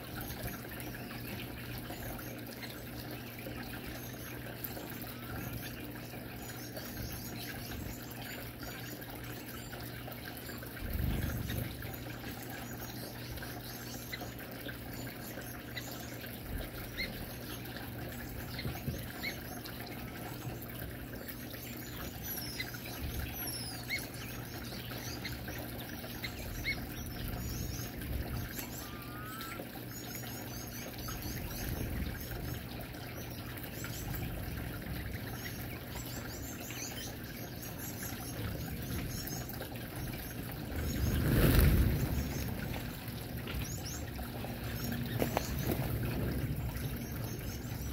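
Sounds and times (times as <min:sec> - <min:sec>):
finches chirping: 0:00.0 - 0:47.9
water fountain trickling: 0:00.0 - 0:47.9.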